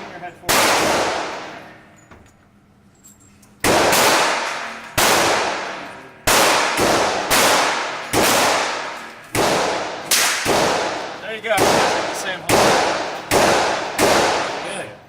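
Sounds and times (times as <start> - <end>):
gunshots echoing indoors: 0.0 - 1.9, 3.6 - 15.0.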